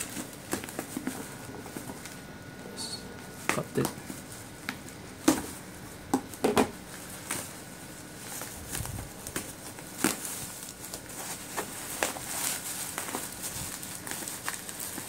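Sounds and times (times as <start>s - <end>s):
bubble wrap crinkling: 0.0s - 2.6s, 3.2s - 15.0s.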